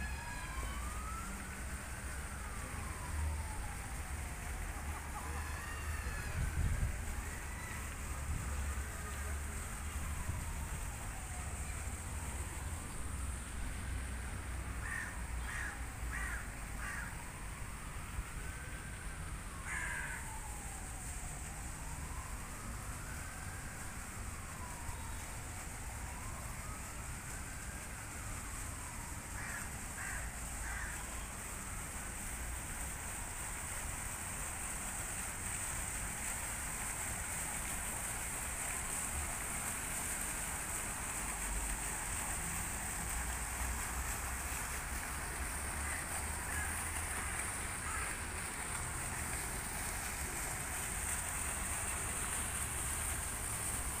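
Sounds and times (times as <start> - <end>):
faint siren wailing: 0.0 - 54.0
fountain water splashing: 0.0 - 54.0
low city traffic rumble: 0.0 - 54.0.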